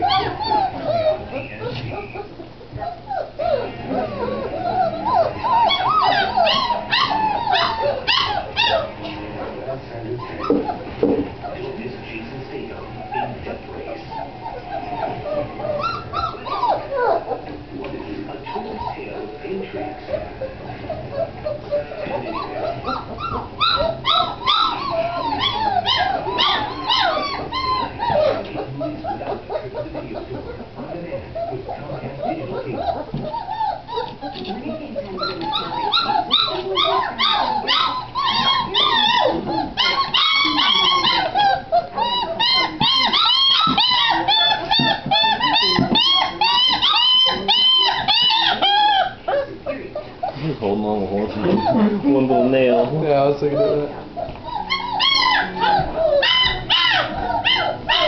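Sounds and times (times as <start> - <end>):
puppies yipping and whining: 0.0 - 58.0.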